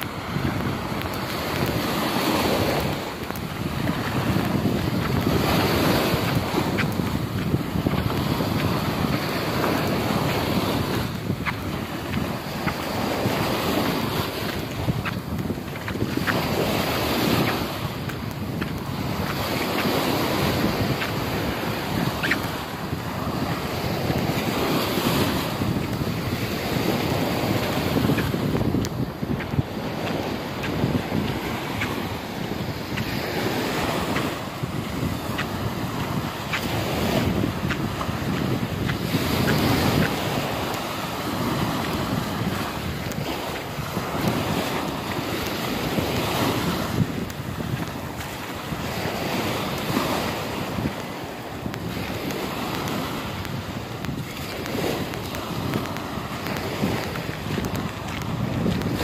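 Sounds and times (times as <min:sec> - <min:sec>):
small waves washing up a beach: 0:00.0 - 0:59.0
wind buffeting microphone: 0:00.0 - 0:59.0.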